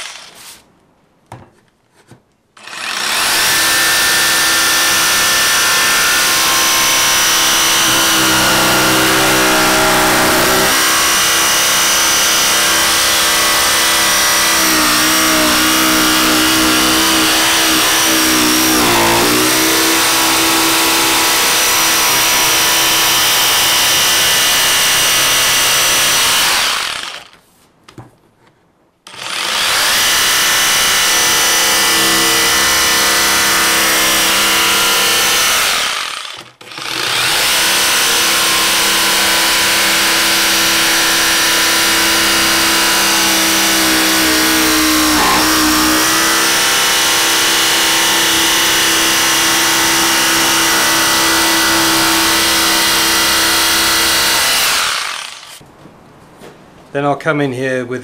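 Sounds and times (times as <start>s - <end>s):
jigsaw motor hum: 0.0s - 0.4s, 2.6s - 27.4s, 29.1s - 55.6s
jigsaw blade sawing wood: 0.0s - 0.6s, 2.6s - 27.4s, 29.1s - 55.6s.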